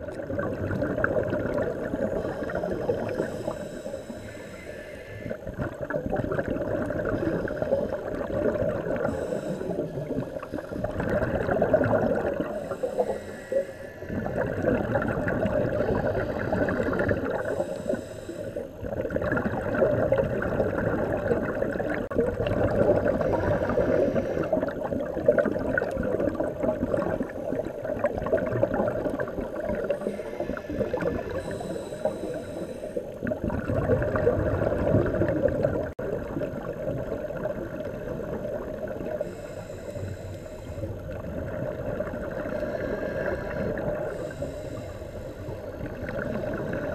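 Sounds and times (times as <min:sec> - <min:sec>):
underwater regulator bubbles: 0:00.0 - 0:46.9.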